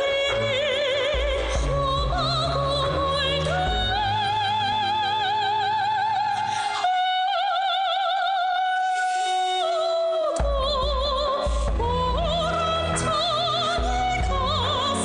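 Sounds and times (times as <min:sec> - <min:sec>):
operatic singing with vibrato: 0:00.0 - 0:15.0.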